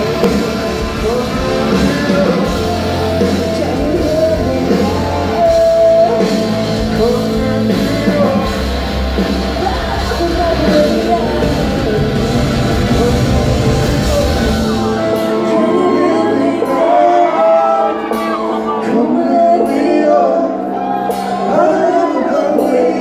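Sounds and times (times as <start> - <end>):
loud live rock band: 0.0 - 23.0
singer holding long notes: 0.0 - 23.0.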